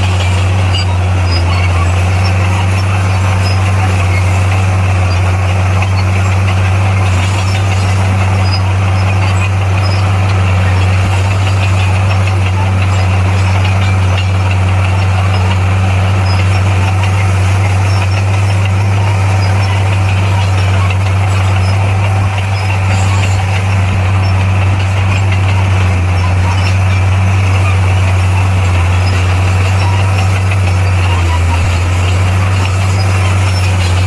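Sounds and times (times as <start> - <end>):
heavy machinery diesel engine drone: 0.0 - 34.0.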